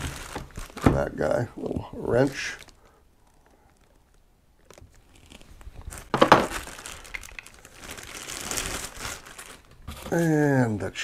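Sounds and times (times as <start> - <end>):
plastic wrapping crinkling: 0.0 - 1.4, 2.1 - 10.7.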